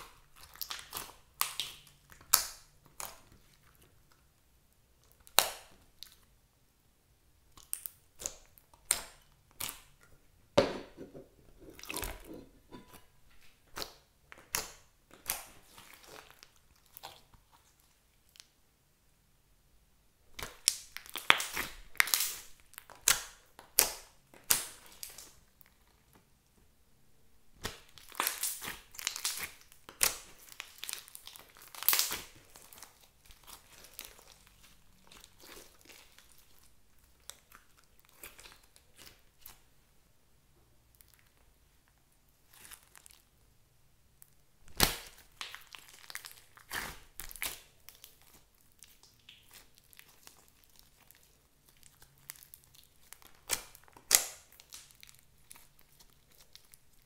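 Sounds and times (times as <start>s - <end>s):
slime squelching: 0.0s - 6.4s, 7.4s - 18.6s, 20.3s - 26.4s, 27.5s - 39.9s, 40.8s - 43.4s, 44.1s - 57.0s.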